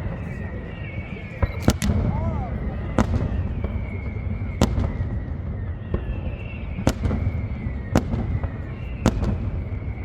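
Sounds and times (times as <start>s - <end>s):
firework whistle: 0.0s - 10.0s
fireworks bangs: 0.0s - 10.0s.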